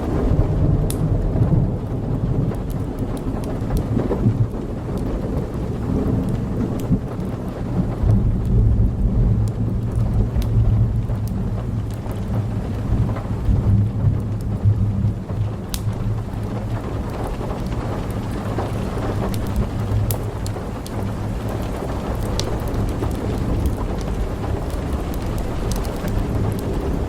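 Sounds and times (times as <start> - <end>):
steady rain: 0.0 - 27.0
thunder rumbling: 0.0 - 27.0.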